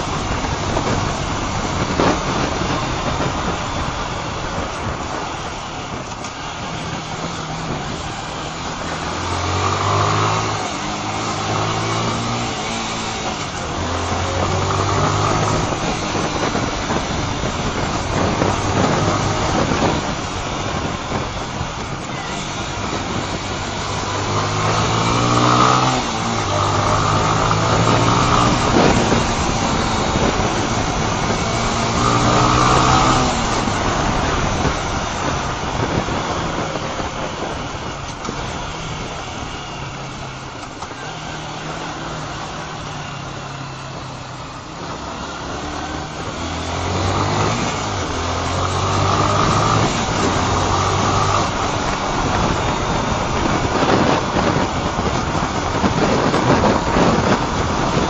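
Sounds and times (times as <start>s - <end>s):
motorcycle engine accelerating: 0.0s - 58.0s
wind on microphone: 0.0s - 58.0s.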